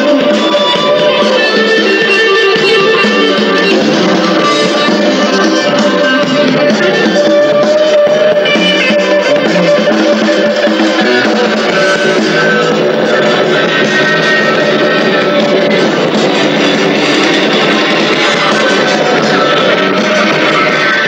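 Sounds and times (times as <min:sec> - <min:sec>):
electric guitar: 0:00.0 - 0:21.0
rock band playing live: 0:00.0 - 0:21.0.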